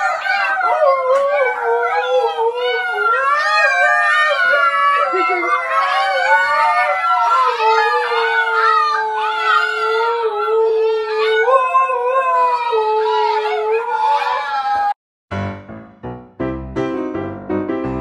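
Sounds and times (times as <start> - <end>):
huskies howling: 0.0 - 15.0
low steady dog howl: 0.0 - 15.0.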